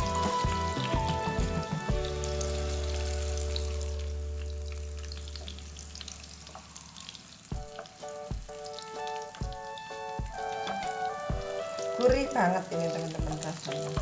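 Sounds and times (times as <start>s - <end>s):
background music: 0.0s - 14.0s
oil sizzling in a wok: 0.0s - 14.0s.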